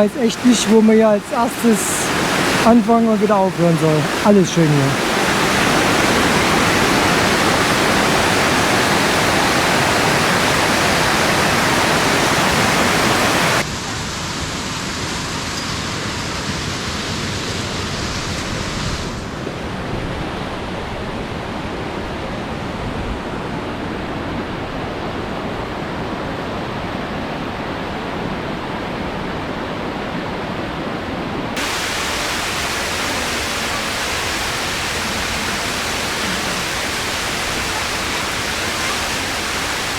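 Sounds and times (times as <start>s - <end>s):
rushing stream water: 0.0s - 30.4s, 31.5s - 39.9s.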